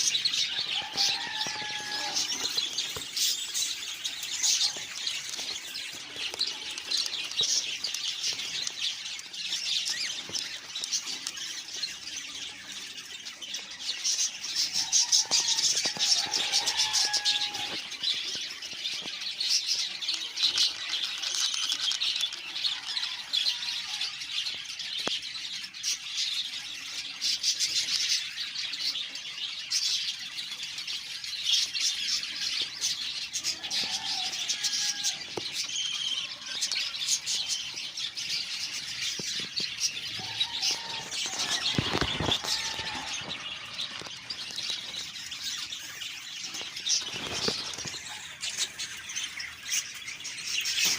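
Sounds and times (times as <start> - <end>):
budgerigars chattering and squawking: 0.0 - 50.9.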